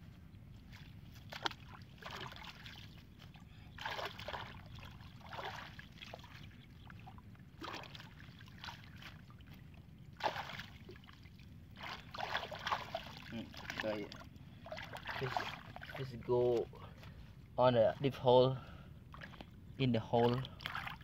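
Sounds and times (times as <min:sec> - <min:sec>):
muddy water sloshing and splashing: 0:00.1 - 0:21.0.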